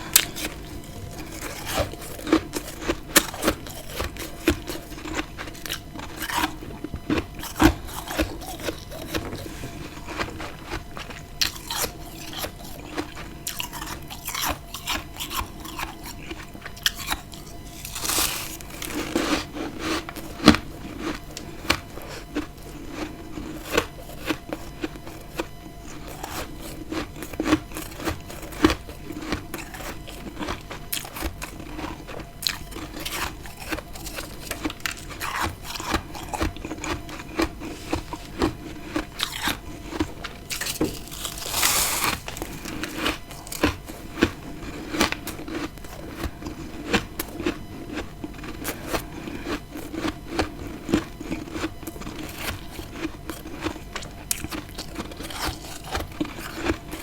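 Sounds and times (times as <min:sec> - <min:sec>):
chewing frost crunching: 0:00.0 - 0:57.0.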